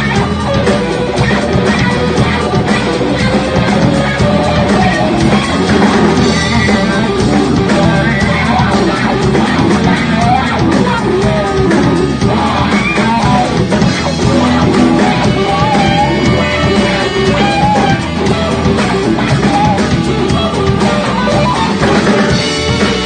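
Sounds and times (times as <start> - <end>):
drums with cymbals: 0.0 - 23.0
electric guitar: 0.0 - 23.0
person singing: 0.0 - 23.0.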